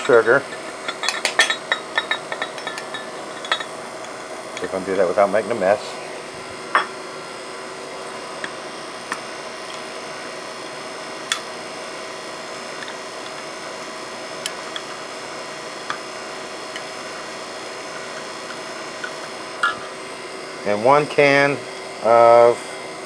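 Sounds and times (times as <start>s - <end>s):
steady room hum: 0.0s - 23.0s.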